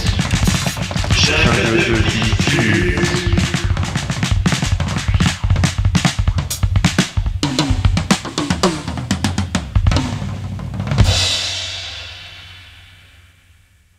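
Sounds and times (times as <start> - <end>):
drum kit fill: 0.0 - 13.7.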